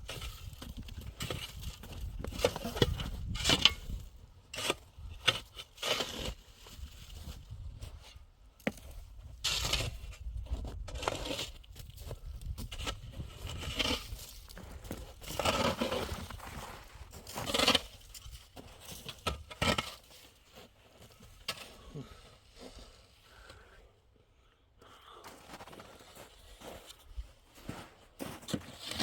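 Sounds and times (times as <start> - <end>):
scraping and crunching strokes: 0.0 - 23.5.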